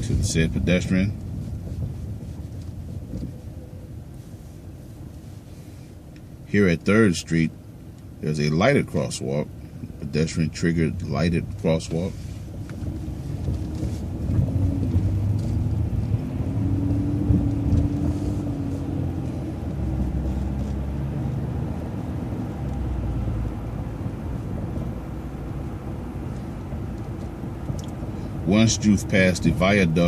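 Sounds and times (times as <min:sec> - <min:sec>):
vehicle interior engine and road noise: 0:00.0 - 0:30.0.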